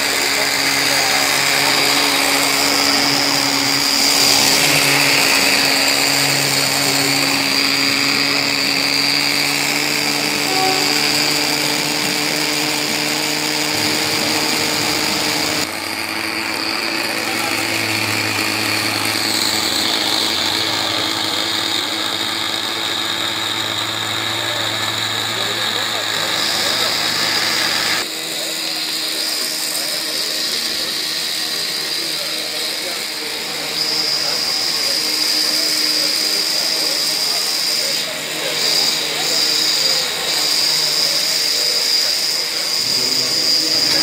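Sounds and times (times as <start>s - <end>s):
model locomotive engine whine: 0.0s - 44.0s.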